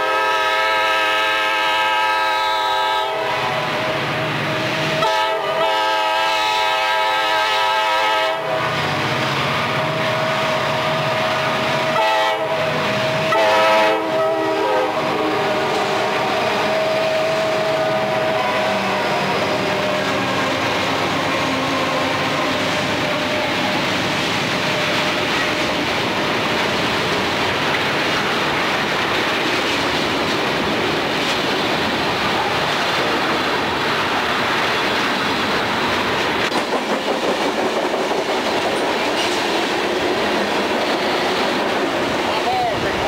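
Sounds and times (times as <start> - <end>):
diesel locomotive engine: 0.0 - 43.0
train wheels rumbling on rails: 0.0 - 43.0.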